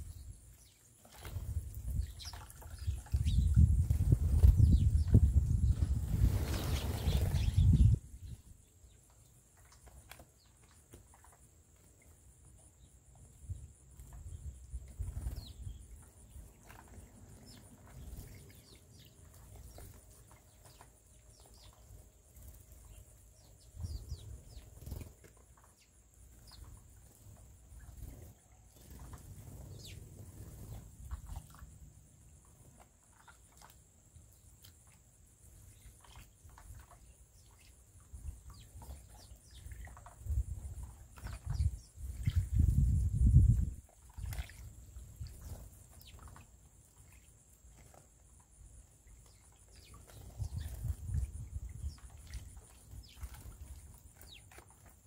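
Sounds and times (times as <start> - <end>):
sparrows chirping: 0.0 - 11.4, 12.5 - 33.6, 34.4 - 55.0.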